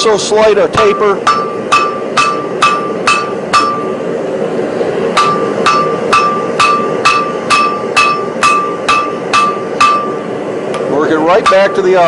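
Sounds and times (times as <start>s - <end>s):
hammer blows on hot steel: 0.0s - 4.2s, 4.9s - 12.0s.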